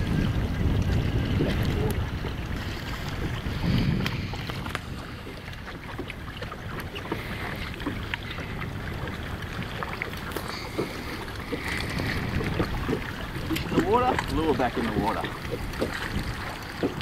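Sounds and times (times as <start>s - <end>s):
water lapping against hull: 0.0s - 17.0s
wind buffeting microphone: 0.0s - 17.0s.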